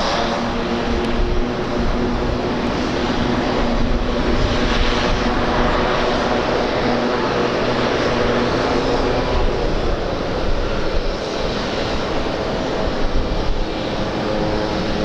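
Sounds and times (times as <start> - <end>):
airliner engines running: 0.0 - 15.0
wind buffeting microphone: 0.0 - 15.0.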